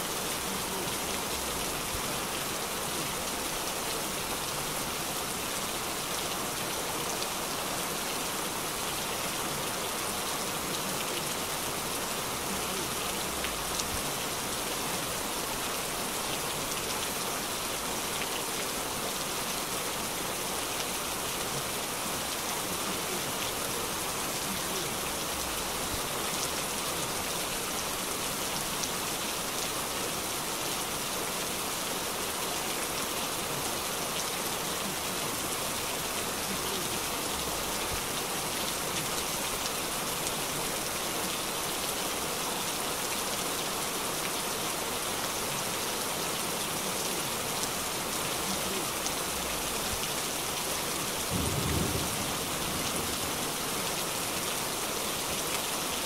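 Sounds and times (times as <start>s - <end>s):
heavy rain on street: 0.0s - 56.0s.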